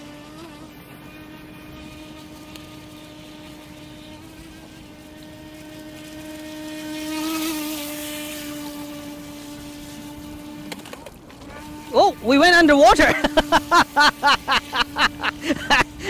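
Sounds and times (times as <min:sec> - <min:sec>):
electric motor whine of toy boat: 0:00.0 - 0:16.0.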